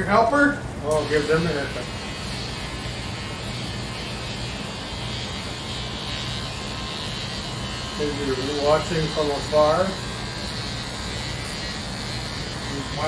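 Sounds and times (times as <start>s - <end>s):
electric hair clippers buzzing: 0.8s - 13.0s.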